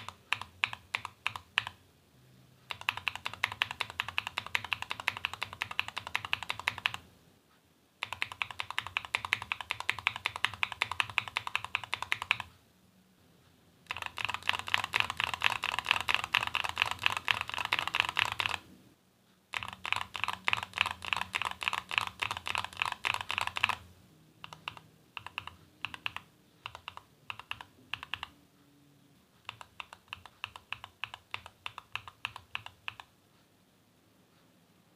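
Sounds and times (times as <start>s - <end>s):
mechanical keyboard typing: 0.0s - 1.8s, 2.6s - 7.1s, 8.0s - 12.5s, 13.8s - 18.7s, 19.5s - 28.4s, 29.4s - 33.2s.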